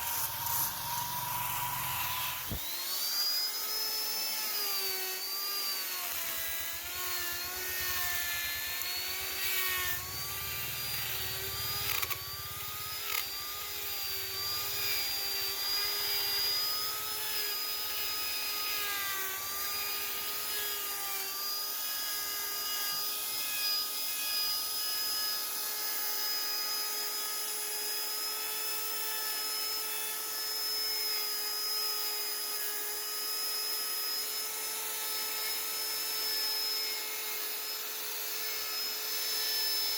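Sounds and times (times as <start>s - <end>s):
rotary tool whining on wood: 0.0s - 39.9s.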